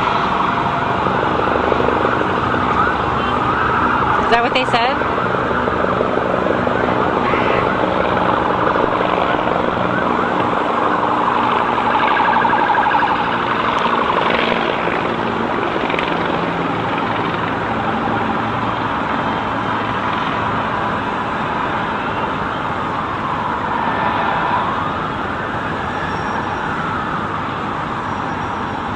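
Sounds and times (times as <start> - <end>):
emergency sirens wailing: 0.0 - 28.9
street traffic noise: 0.0 - 28.9.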